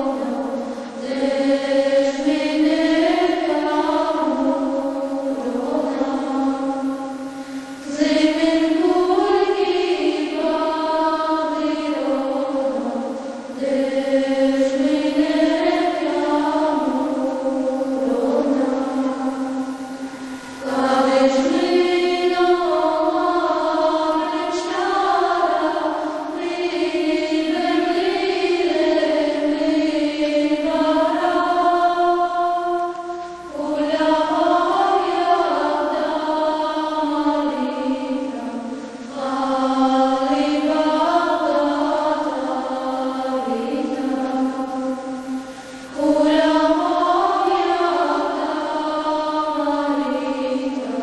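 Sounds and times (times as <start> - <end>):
voices chanting in unison: 0.0 - 51.0.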